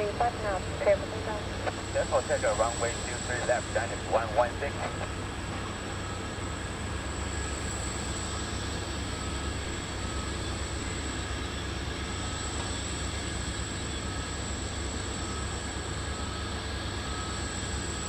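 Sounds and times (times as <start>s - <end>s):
distant jet engines rumbling: 0.0s - 18.0s.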